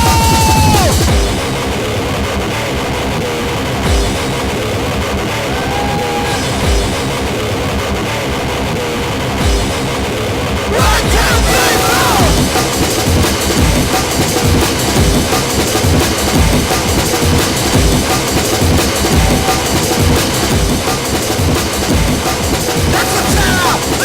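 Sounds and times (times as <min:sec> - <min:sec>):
pounding drum kit: 0:00.0 - 0:02.6, 0:03.8 - 0:07.6, 0:09.4 - 0:24.0
distorted electric guitar: 0:00.0 - 0:24.0.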